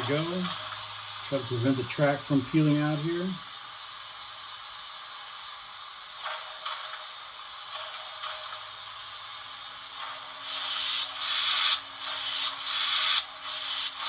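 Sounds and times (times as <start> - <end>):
model steam locomotive hiss: 0.0 - 14.0
steam locomotive chuffs: 0.0 - 14.0.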